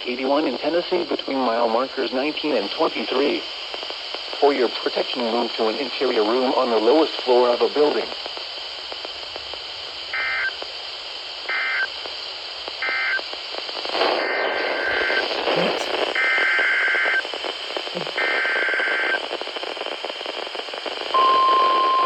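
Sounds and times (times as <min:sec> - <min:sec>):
radio hiss: 0:00.0 - 0:22.0.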